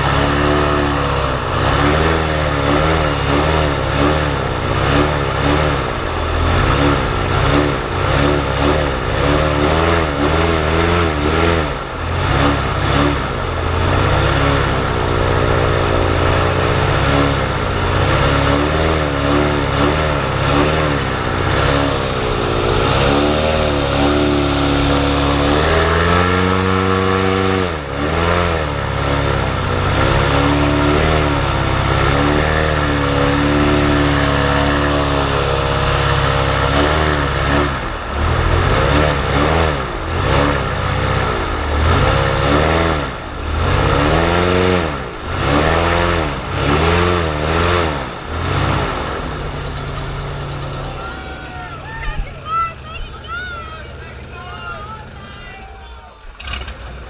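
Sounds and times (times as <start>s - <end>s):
airboat engine revving: 0.0s - 57.0s.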